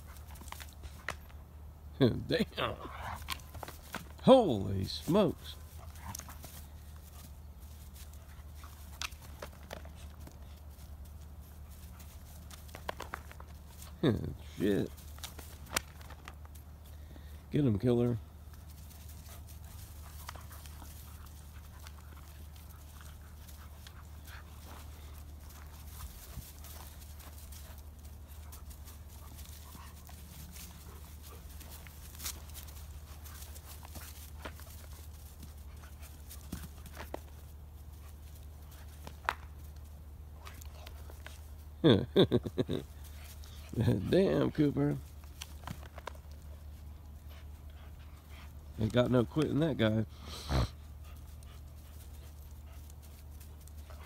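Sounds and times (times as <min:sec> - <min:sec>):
dogs scuffling on grass: 0:00.0 - 0:54.0.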